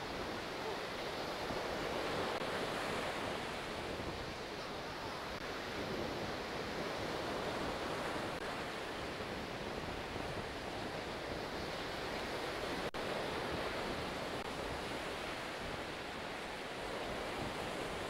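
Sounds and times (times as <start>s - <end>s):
sea surf on beach: 0.0s - 18.0s
wind: 0.0s - 18.0s.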